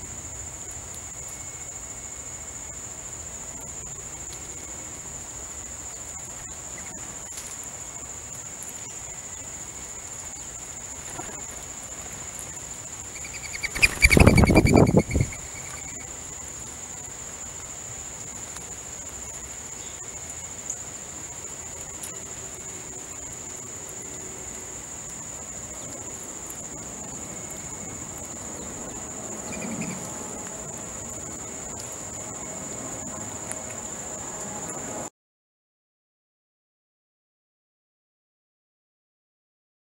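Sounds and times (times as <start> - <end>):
insects droning: 0.0 - 35.1.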